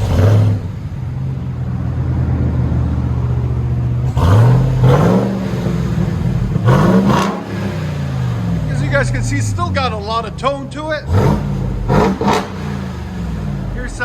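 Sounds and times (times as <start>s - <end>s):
truck engine idling and revving: 0.0s - 14.0s.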